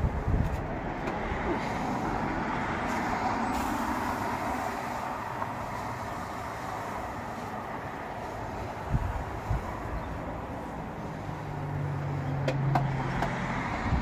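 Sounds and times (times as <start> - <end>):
passing vehicle noise: 0.0 - 14.0.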